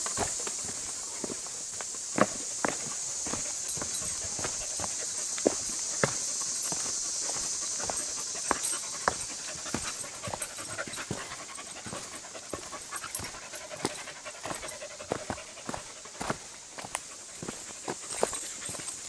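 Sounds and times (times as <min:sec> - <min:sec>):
footsteps on rocky dirt trail: 0:00.0 - 0:19.0
steady high hiss: 0:00.0 - 0:19.0
dog panting: 0:03.4 - 0:19.0.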